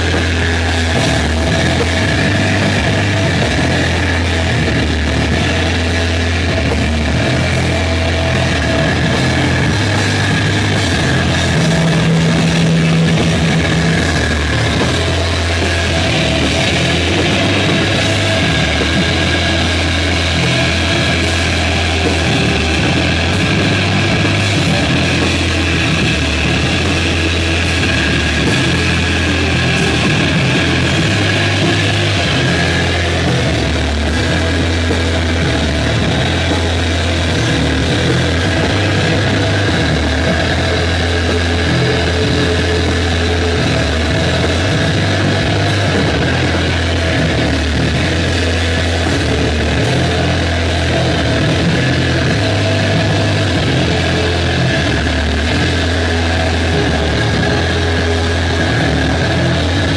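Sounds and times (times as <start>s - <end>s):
drum kit: 0.0s - 59.9s
electric guitar: 0.0s - 59.9s
live rock band playing: 0.0s - 59.9s.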